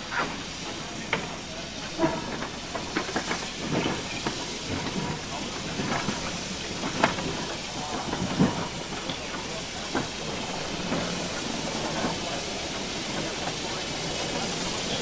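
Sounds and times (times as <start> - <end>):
steam hissing: 0.0 - 15.0
train wheels clanking on rails: 0.0 - 15.0.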